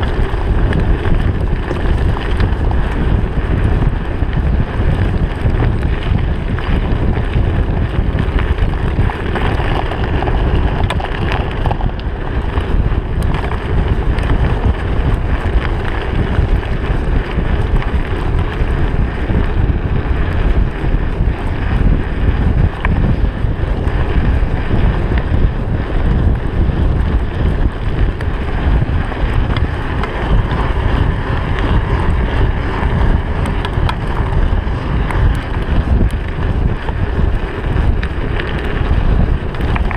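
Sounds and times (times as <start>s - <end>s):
tyres crunching over gravel: 0.0s - 25.1s, 25.7s - 39.9s
bike rattling: 0.0s - 39.9s
wind buffeting microphone: 0.0s - 39.9s.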